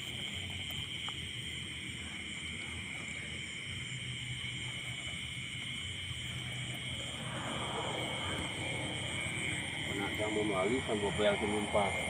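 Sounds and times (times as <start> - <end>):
crickets and insects trilling: 0.0 - 12.0
low rumble: 0.0 - 12.0.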